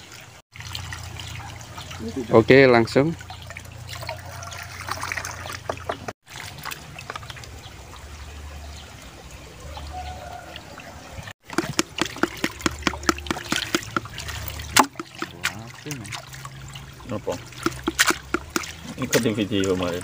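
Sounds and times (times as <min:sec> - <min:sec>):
small splashes and ticks: 0:00.0 - 0:10.7, 0:11.4 - 0:20.0
water draining through basket: 0:00.0 - 0:20.0
water trickling and splashing: 0:00.0 - 0:20.0.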